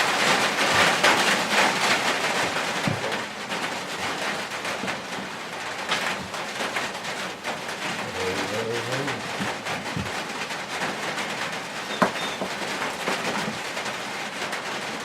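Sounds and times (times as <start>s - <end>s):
rain on roof: 0.0s - 15.0s.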